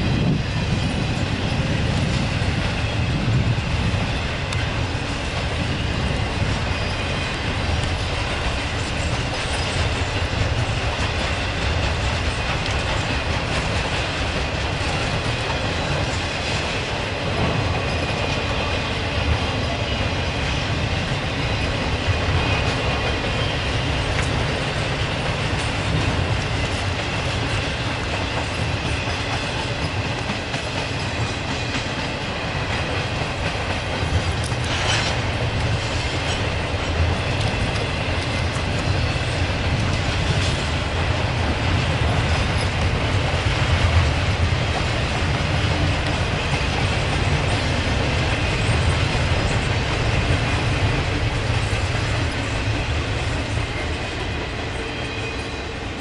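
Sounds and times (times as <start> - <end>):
freight train cars rolling past: 0.0 - 56.0
train knocks: 0.0 - 56.0.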